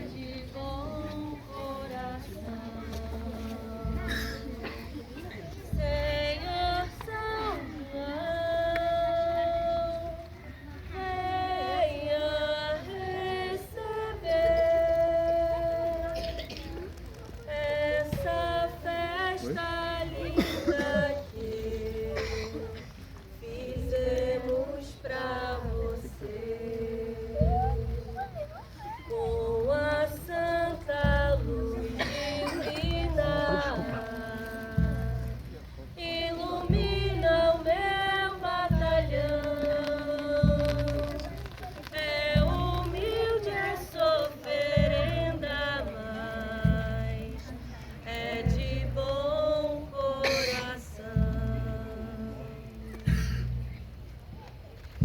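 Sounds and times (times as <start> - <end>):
women and children singing: 0.0 - 53.6.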